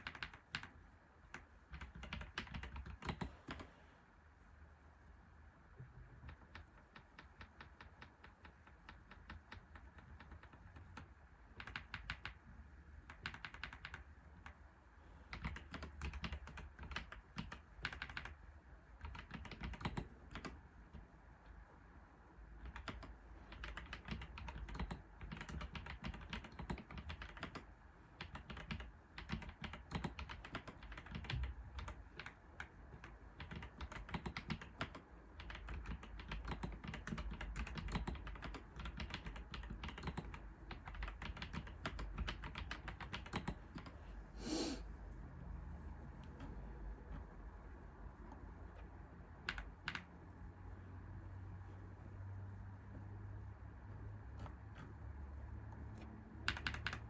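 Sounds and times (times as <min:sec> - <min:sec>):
computer keyboard typing: 0:00.0 - 0:03.7, 0:06.0 - 0:21.6, 0:22.6 - 0:44.1, 0:46.2 - 0:50.2, 0:55.7 - 0:57.0.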